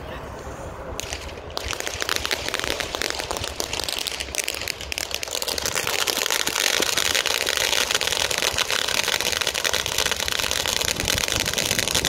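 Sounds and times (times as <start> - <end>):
firework crackling and hissing: 0.4 - 12.0.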